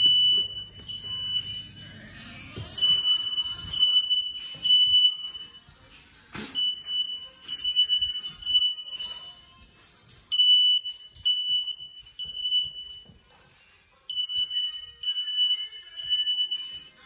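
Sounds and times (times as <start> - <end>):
smoke alarm beeping: 0.0 - 1.8, 2.5 - 13.4, 14.0 - 17.0.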